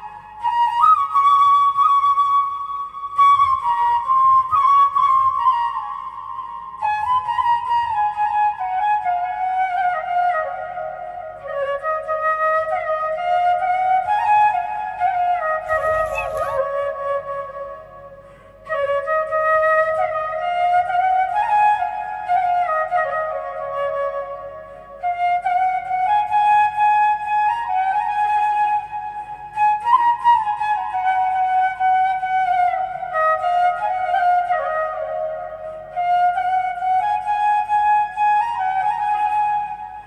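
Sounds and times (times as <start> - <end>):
flute melody: 0.0 - 40.0.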